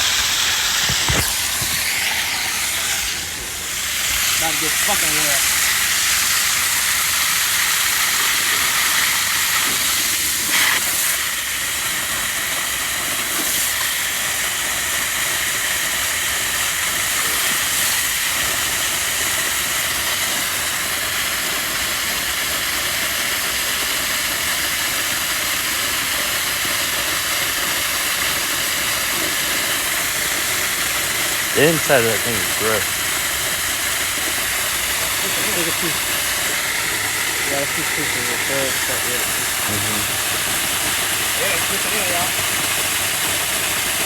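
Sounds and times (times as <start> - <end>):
pressurized water spraying: 0.0 - 44.0.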